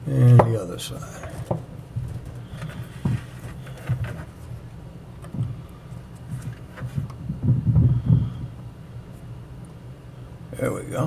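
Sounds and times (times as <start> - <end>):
dull thumps and handling rumble: 0.0 - 11.0.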